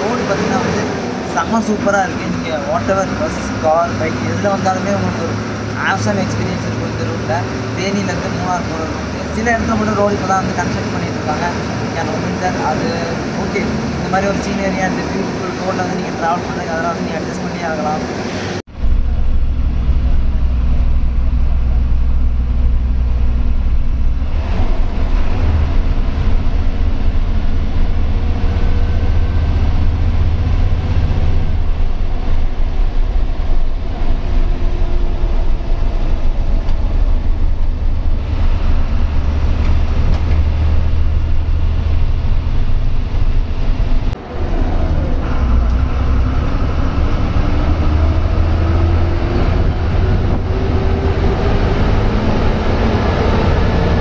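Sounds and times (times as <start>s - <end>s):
bus diesel engine rumble: 0.0s - 54.0s
road and cabin noise: 0.0s - 54.0s.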